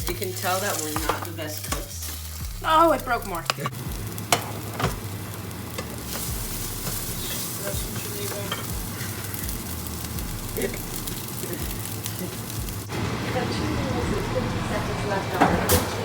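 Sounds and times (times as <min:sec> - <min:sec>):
food sizzling in a pan: 0:00.0 - 0:13.6.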